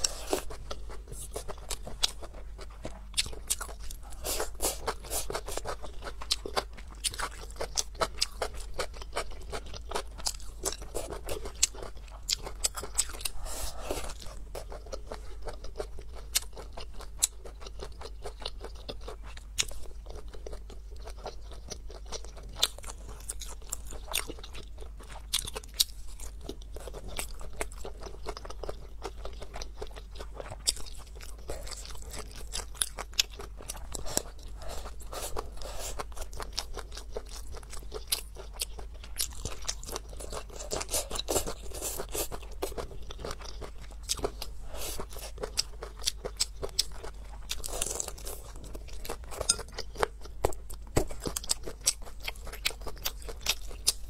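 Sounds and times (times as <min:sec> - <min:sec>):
food being bitten and chewed: 0:00.0 - 0:54.0.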